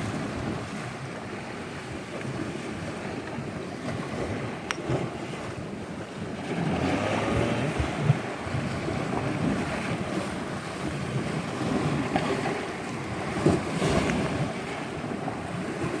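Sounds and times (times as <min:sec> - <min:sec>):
waves washing on shore: 0:00.0 - 0:16.0
wind buffeting microphone: 0:00.0 - 0:16.0.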